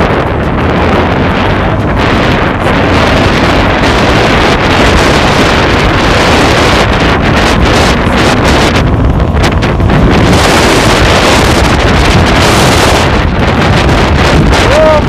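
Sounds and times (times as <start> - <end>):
motorcycle engine: 0.0 - 15.0
wind buffeting microphone: 0.0 - 15.0.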